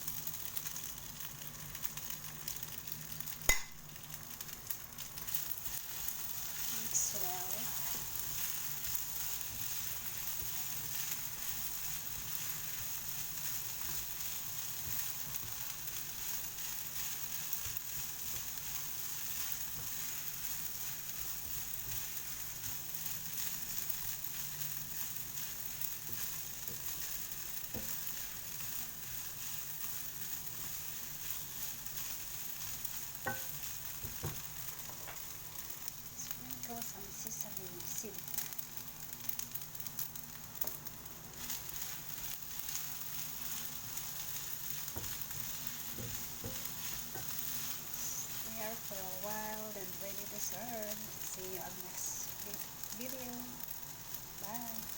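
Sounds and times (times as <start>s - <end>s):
rice sizzling in a pan: 0.0s - 54.9s.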